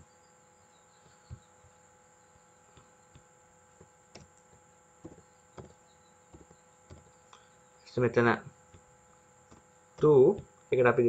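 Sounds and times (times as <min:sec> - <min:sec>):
faint electrical hum and hiss: 0:00.0 - 0:11.0.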